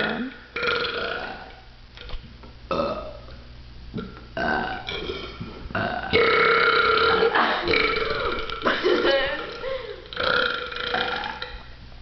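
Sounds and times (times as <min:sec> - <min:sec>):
people burping: 0:00.0 - 0:01.5, 0:02.7 - 0:03.3, 0:04.0 - 0:11.6.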